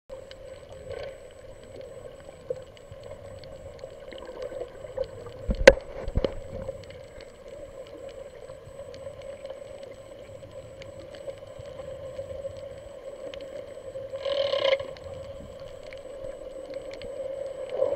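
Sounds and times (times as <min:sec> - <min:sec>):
faint clicks: 0:00.1 - 0:17.9
underwater hum: 0:00.1 - 0:17.9.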